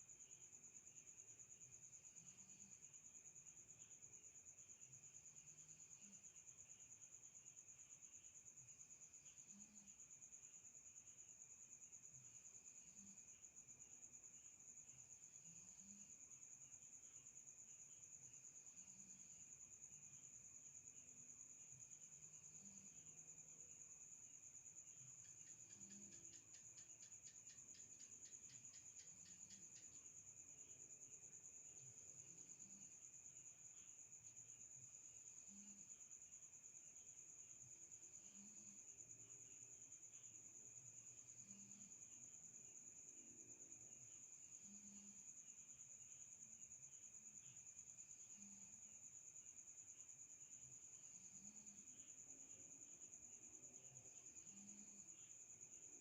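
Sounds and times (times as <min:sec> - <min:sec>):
cricket trilling: 0:00.0 - 0:56.0.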